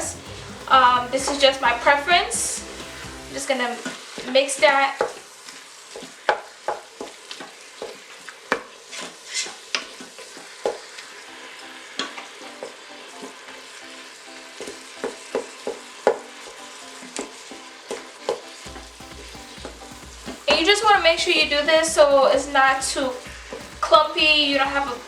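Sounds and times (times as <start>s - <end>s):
meat sizzling in a pot: 0.1s - 25.0s.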